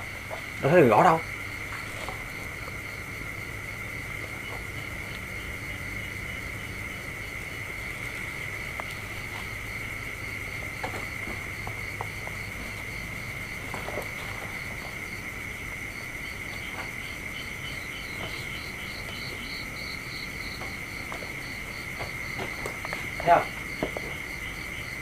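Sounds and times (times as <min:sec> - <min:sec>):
insect chirping: 0:00.0 - 0:25.0
insect high trill: 0:00.0 - 0:25.0.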